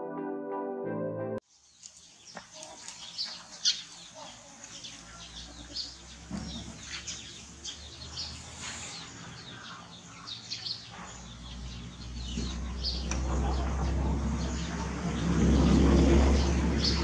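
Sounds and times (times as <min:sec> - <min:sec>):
small birds chirping: 0:01.4 - 0:17.0.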